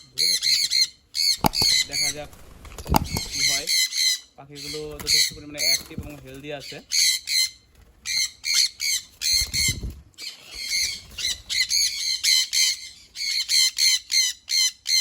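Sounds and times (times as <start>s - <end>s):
parrots screeching: 0.0s - 5.9s, 6.6s - 15.0s.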